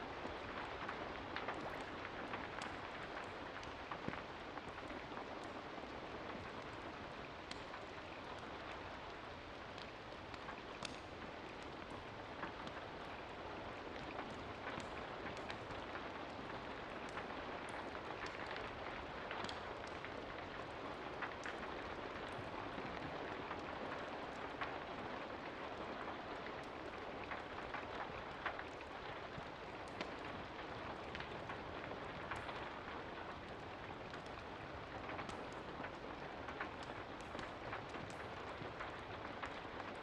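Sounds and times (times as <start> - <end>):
steady rain hiss: 0.0 - 40.0
raindrops ticking: 0.1 - 40.0.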